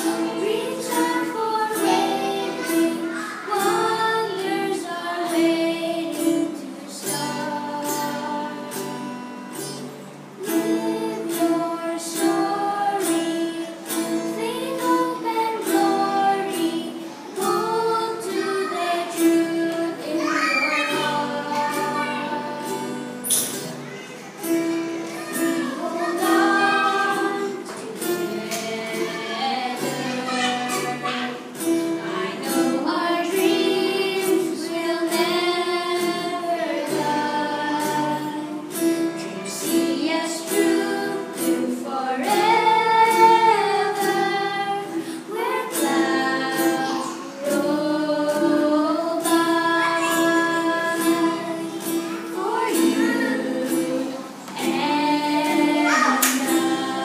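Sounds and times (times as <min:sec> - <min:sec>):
girl singing: 0:00.0 - 0:57.0
strummed acoustic guitar: 0:00.0 - 0:57.0.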